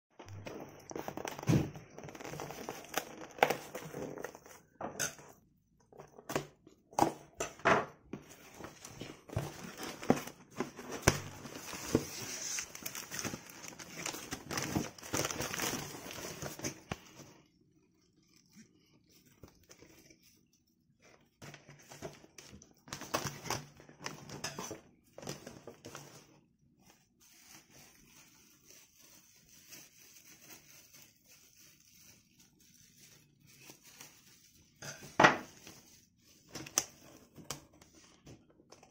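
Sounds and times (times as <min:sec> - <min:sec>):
cardboard and paper rustling: 0:00.2 - 0:04.8, 0:08.1 - 0:17.4, 0:18.2 - 0:38.9.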